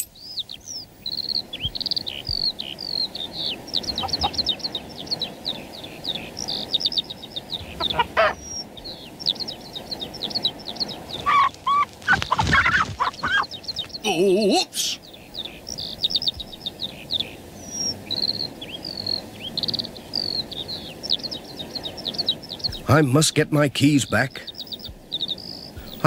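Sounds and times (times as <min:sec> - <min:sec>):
songbirds chirping and trilling: 0:00.0 - 0:26.0
hen clucking: 0:03.4 - 0:26.0.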